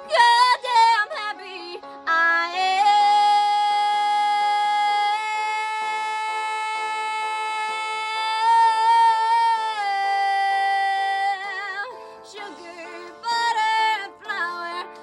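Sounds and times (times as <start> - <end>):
instrumental backing music: 0.0 - 15.0
woman singing: 0.0 - 15.0.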